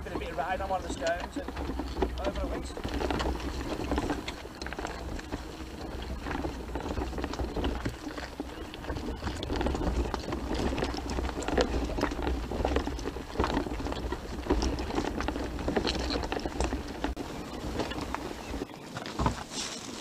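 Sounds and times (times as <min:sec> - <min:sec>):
gravel crunching: 0:00.0 - 0:20.0.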